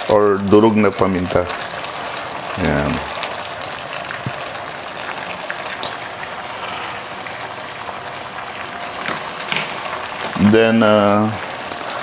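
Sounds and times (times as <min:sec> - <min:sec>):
chicken sizzling in a pot: 0:00.0 - 0:12.0
eggs boiling in a saucepan: 0:00.0 - 0:12.0
small crackles: 0:01.4 - 0:10.4, 0:11.4 - 0:12.0.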